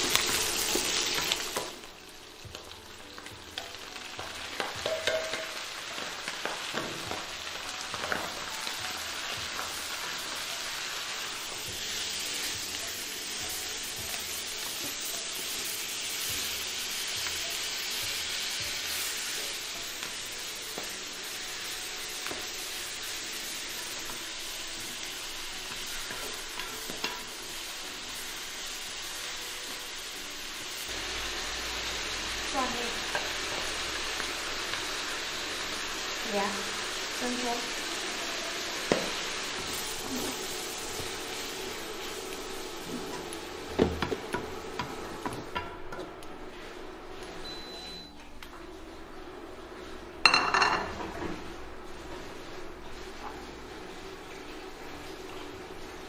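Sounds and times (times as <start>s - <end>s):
cabbage sizzling in a wok: 0.0s - 56.0s.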